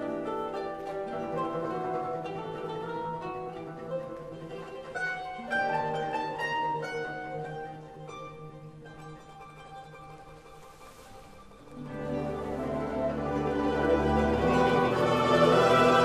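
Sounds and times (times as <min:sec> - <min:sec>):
plucked string orchestra: 0:00.0 - 0:16.0.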